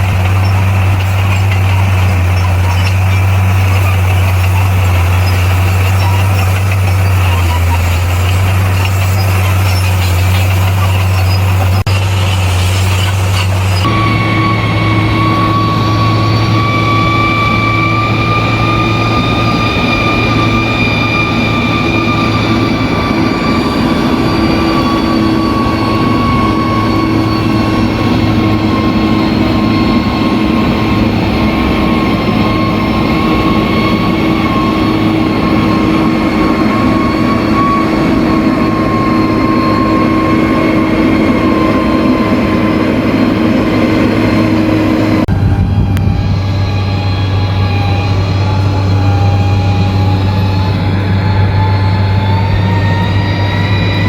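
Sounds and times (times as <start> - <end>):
bulldozer diesel engine running: 0.0 - 54.0
high engine whine: 0.0 - 54.0.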